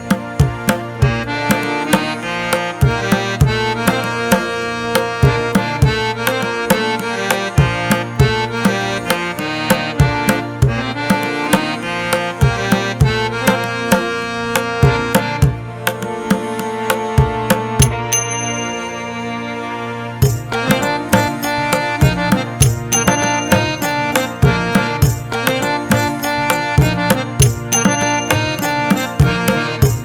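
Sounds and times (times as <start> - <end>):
hand-drum rhythm: 0.0 - 18.9, 20.2 - 30.0
held melodic notes: 0.0 - 30.0.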